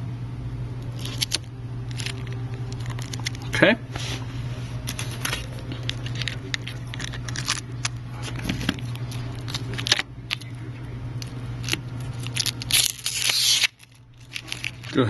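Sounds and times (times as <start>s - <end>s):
low hum: 0.0s - 15.0s
tape clicking and crackling: 0.8s - 3.6s, 4.8s - 15.0s.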